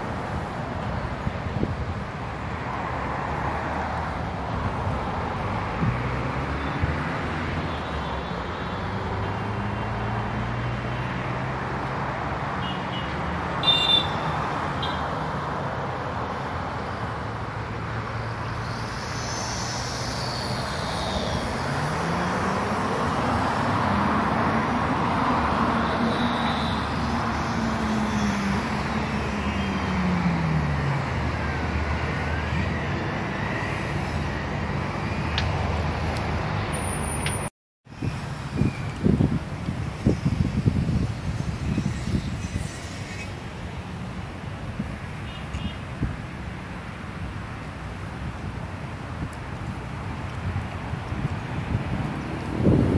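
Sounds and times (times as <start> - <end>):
city road traffic hum: 0.0 - 52.9.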